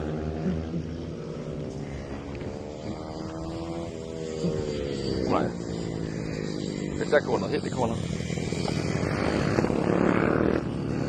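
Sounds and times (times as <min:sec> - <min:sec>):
mini motorcycle engines racing: 0:00.0 - 0:11.0.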